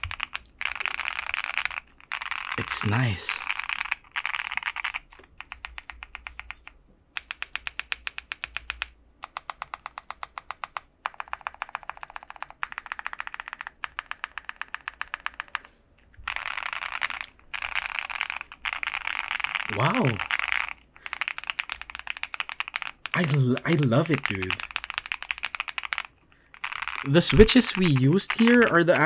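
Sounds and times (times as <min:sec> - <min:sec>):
mechanical keyboard typing: 0:00.0 - 0:29.0.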